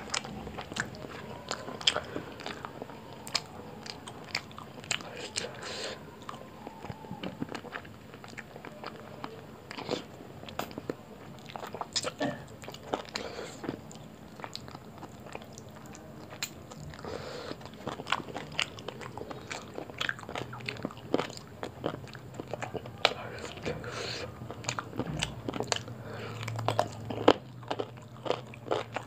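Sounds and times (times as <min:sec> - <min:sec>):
close chewing with lip smacks: 0:00.0 - 0:29.0.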